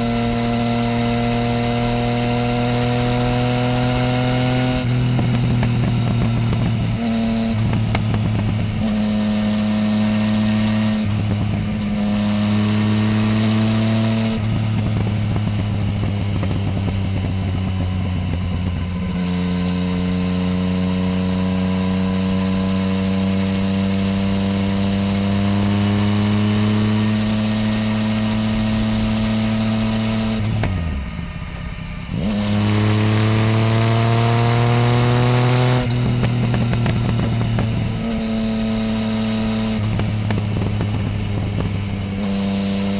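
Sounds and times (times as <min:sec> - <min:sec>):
motorcycle engine revving through gears: 0:00.0 - 0:42.9.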